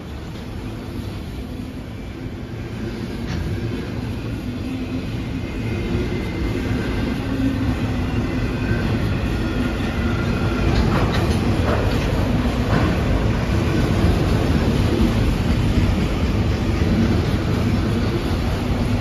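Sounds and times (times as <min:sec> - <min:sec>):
train cars rattling: 0:00.0 - 0:19.0
train wheels rumbling on rail: 0:00.0 - 0:19.0.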